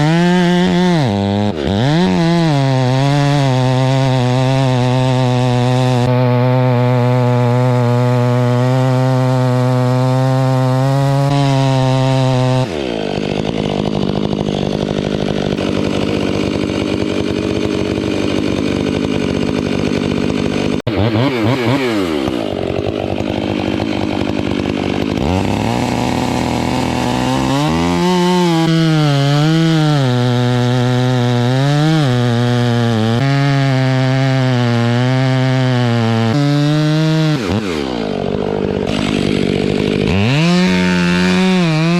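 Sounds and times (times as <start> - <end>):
chainsaw running: 0.0 - 41.9.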